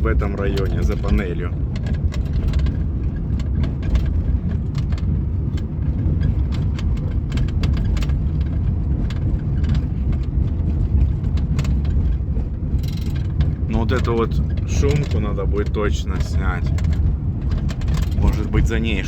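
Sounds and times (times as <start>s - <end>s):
dashboard rattles and knocks: 0.0s - 19.0s
road and engine rumble: 0.0s - 19.0s.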